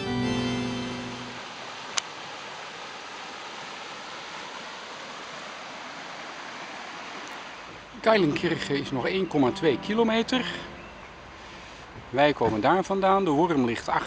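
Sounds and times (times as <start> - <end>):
stream rushing over stones: 0.0 - 14.0.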